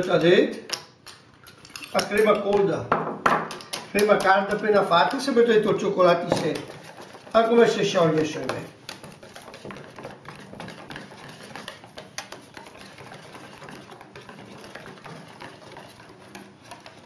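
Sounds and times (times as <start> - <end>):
whisk scraping steel bowl: 0.0 - 0.8, 1.5 - 2.8, 3.5 - 17.0.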